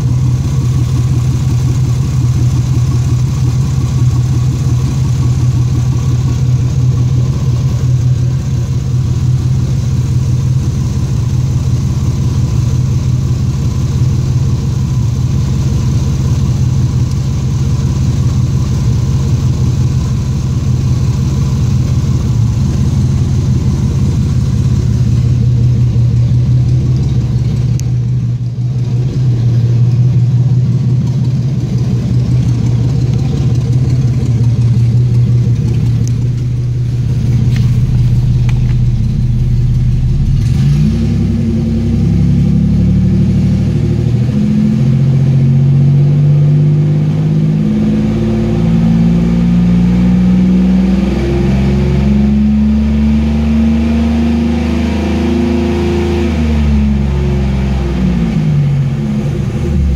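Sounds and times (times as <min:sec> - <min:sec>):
car engine running and revving: 0:00.0 - 0:59.9.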